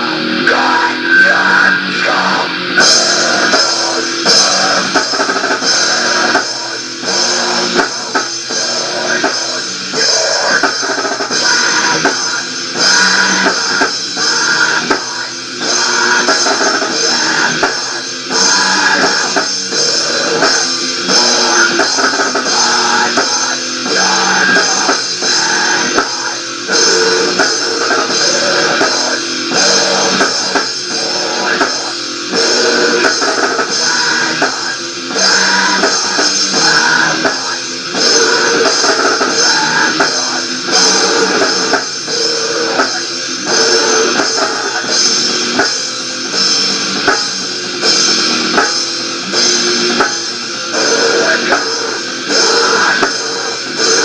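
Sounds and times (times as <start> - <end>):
rock band music: 0.0 - 54.0.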